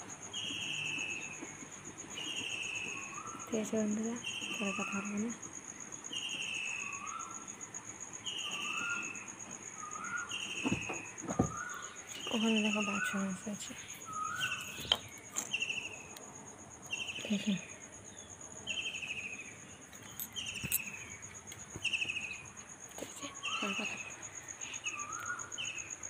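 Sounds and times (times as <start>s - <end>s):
insect trill: 0.0s - 26.0s.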